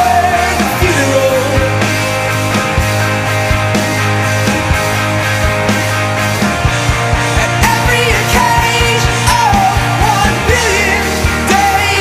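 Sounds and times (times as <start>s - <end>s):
rock music with fast drum beat: 0.0s - 12.0s.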